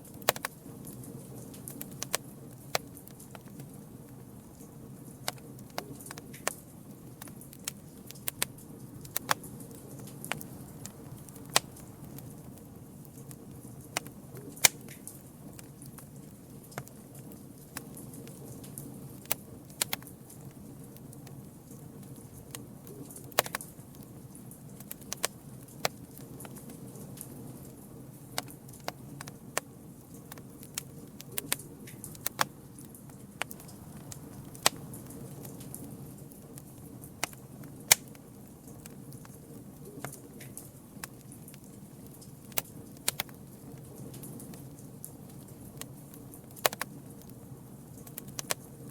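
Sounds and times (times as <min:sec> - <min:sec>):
burning wood popping and snapping: 0:00.0 - 0:48.9
low rush of flames: 0:00.0 - 0:48.9.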